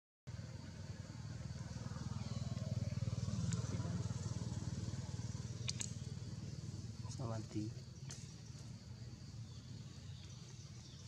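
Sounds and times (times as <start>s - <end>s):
low engine rumble: 0.3s - 11.0s.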